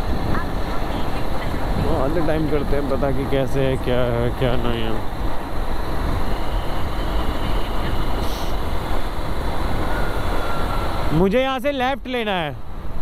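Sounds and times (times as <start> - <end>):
wind rush: 0.0 - 11.3.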